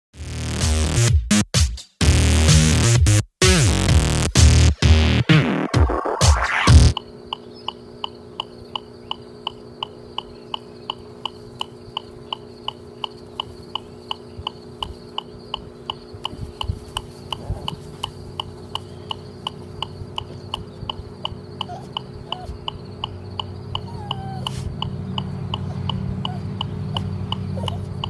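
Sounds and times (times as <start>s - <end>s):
electronic metronome beeping: 4.5s - 28.0s.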